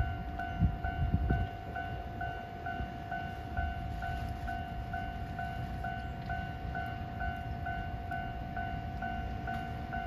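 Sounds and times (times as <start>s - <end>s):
distant freight train rumble: 0.0s - 10.0s
level crossing warning bell: 0.0s - 10.0s
wind: 0.0s - 10.0s.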